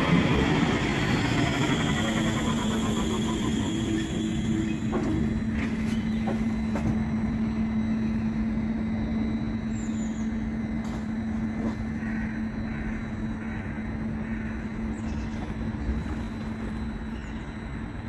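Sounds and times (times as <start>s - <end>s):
outdoor traffic noise: 0.0s - 18.0s
tram electrical hum: 0.0s - 18.0s.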